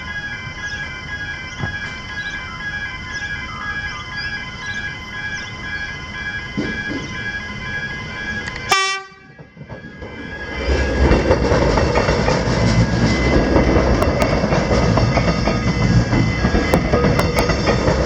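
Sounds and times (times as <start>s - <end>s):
level crossing alarm ringing: 0.0s - 18.0s
train rumbling over rails: 0.0s - 18.0s.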